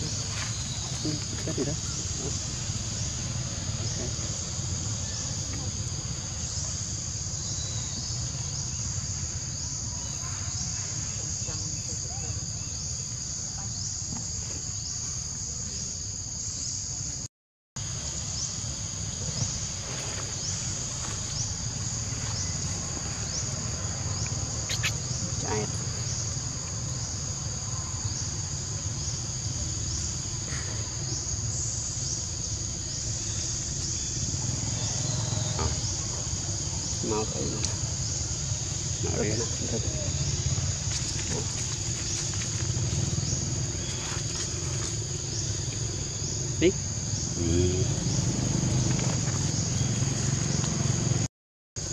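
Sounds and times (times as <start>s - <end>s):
high insect chorus: 0.0s - 51.9s.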